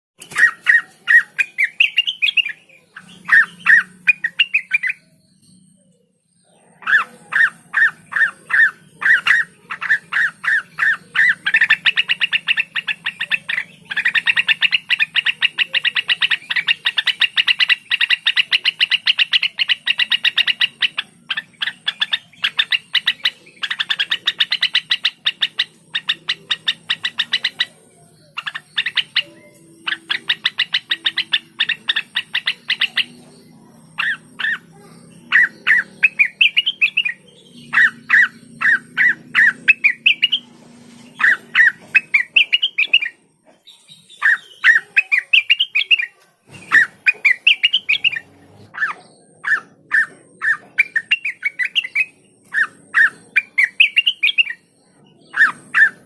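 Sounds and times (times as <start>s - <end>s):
bird chirping rapidly: 0.2s - 56.0s.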